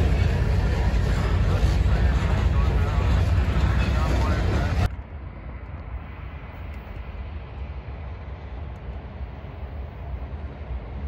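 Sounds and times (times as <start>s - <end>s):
distant freight train rumble: 0.0s - 11.0s.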